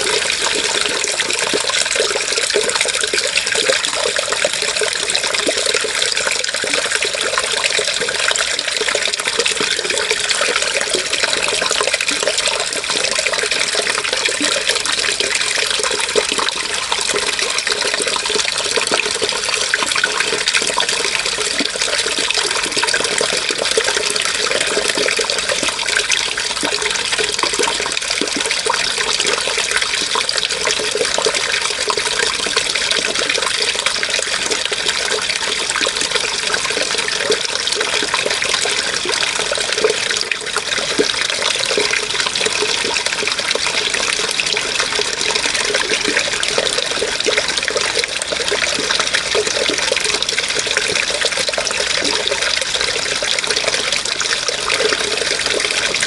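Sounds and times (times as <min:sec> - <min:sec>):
water flowing and splashing: 0:00.0 - 0:56.0.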